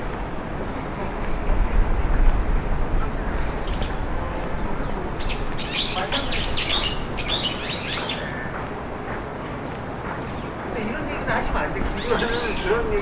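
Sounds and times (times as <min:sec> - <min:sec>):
street noise: 0:00.0 - 0:13.0
wind buffeting microphone: 0:00.0 - 0:13.0
small birds chirping: 0:00.7 - 0:13.0.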